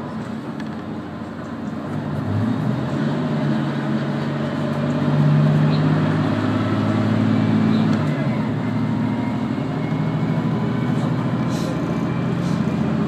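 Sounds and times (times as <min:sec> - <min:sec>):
diesel engine drone: 0:00.0 - 0:13.0
railcar running rumble: 0:00.0 - 0:13.0.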